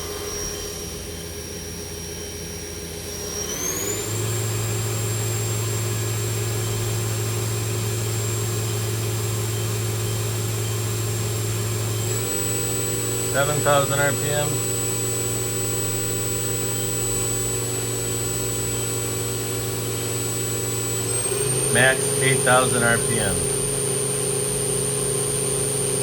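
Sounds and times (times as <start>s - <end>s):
machine spindle whine: 0.0s - 26.0s.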